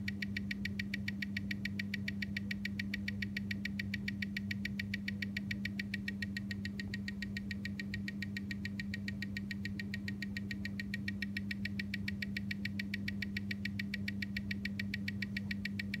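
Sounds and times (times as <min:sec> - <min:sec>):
steady low hum: 0:00.0 - 0:16.0
watch movement ticking: 0:00.0 - 0:16.0.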